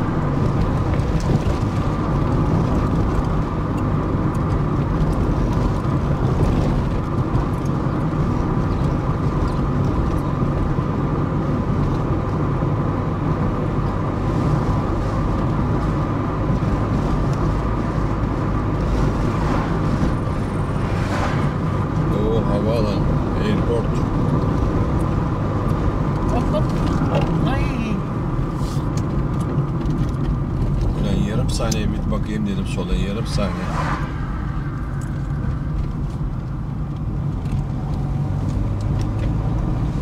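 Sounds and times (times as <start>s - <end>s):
car driving road noise: 0.0s - 40.0s.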